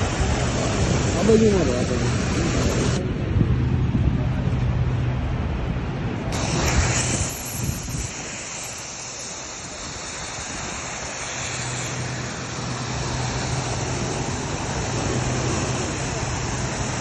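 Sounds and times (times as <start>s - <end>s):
pressure washer spray hissing: 0.0s - 3.0s, 6.3s - 17.0s
engine hum: 0.0s - 17.0s.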